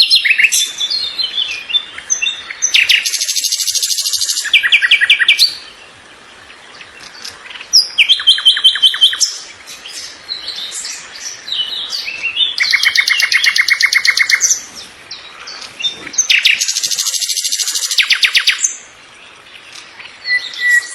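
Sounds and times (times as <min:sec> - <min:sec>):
songbird trills: 0:00.0 - 0:20.9.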